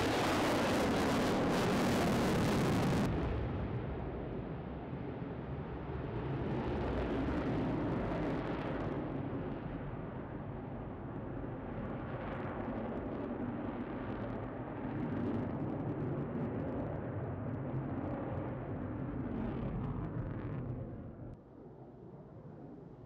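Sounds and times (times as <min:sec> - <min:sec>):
jet engine rumble with crackle: 0:00.0 - 0:23.0.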